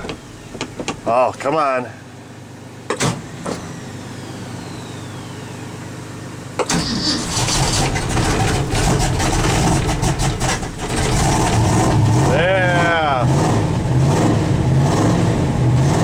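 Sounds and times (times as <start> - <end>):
engine running rough: 0.0 - 16.0
engine cranking with falling whine: 2.9 - 16.0.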